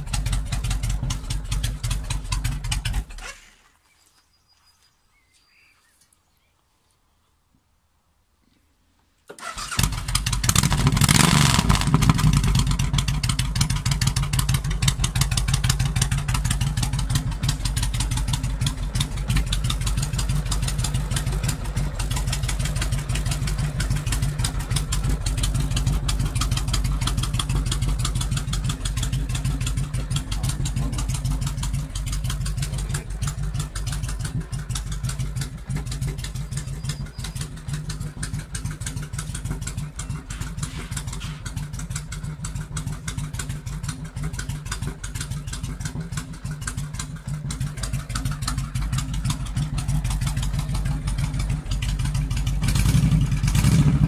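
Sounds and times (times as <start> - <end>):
motorcycle engine idling: 0.0 - 3.4, 9.4 - 54.0.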